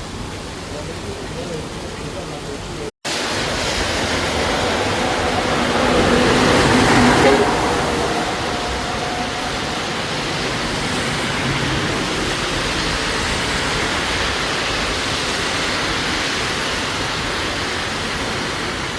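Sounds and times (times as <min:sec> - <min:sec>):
water rushing: 0:00.0 - 0:18.9.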